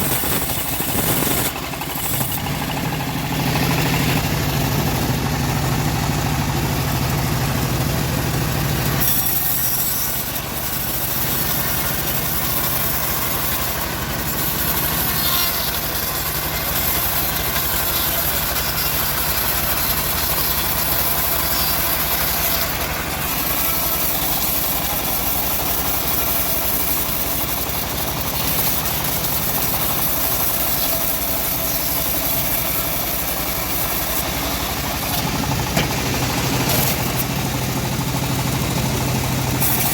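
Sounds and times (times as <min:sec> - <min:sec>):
sawmill engine cutting log: 0:00.0 - 0:39.9.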